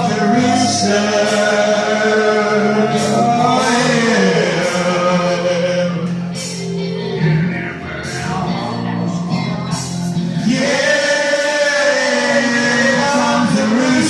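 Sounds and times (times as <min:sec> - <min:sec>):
men singing karaoke: 0:00.0 - 0:14.0
rock backing track: 0:00.0 - 0:14.0.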